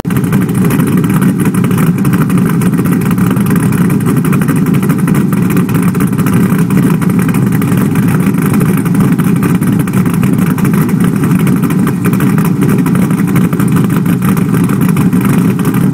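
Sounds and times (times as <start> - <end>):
car engine exhaust rumbling: 0.0 - 15.9.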